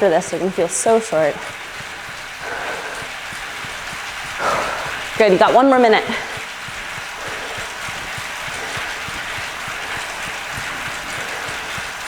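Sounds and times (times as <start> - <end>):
bicycle trainer whirring hiss: 0.0 - 12.0
drivetrain knocks: 0.0 - 12.0.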